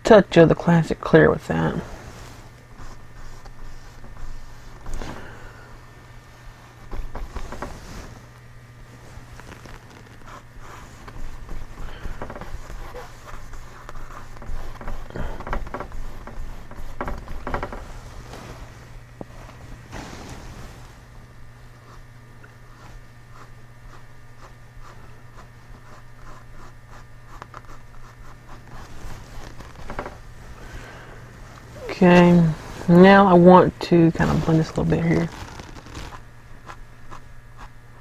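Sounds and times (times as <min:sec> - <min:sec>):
steady low hum: 0:00.0 - 0:38.0
paintbrush scrubbing on canvas: 0:01.8 - 0:05.4, 0:06.3 - 0:08.4, 0:09.0 - 0:21.1, 0:21.8 - 0:33.3, 0:34.0 - 0:37.8.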